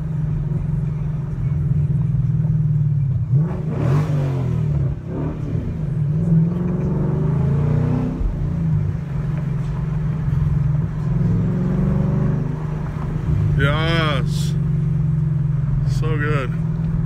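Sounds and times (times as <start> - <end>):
car engine rising and falling: 0.0 - 17.0.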